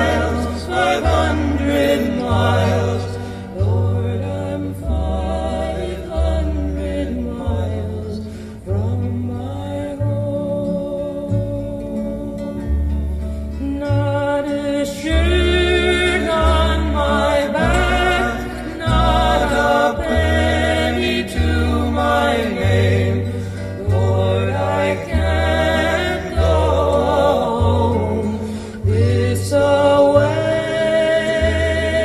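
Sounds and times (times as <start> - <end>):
singing voices with vibrato: 0.0 - 13.0, 13.6 - 32.0
deep bass notes: 0.0 - 32.0.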